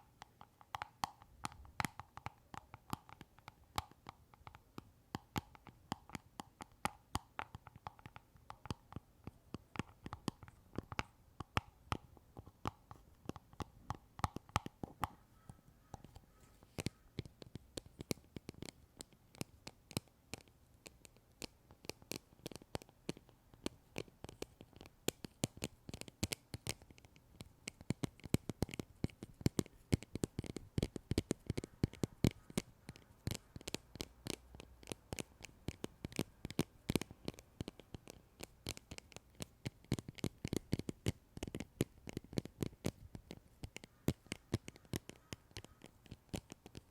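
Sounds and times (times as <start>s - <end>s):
small taps and clicks: 0.0s - 46.9s.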